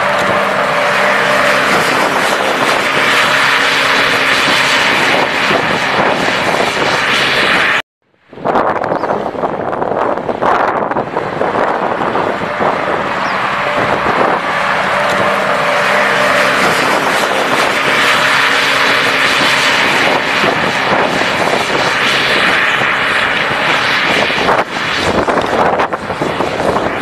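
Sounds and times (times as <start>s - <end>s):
buggy engine at high revs: 0.0s - 7.8s, 9.3s - 27.0s
tyres churning dirt: 0.0s - 7.8s, 10.0s - 27.0s.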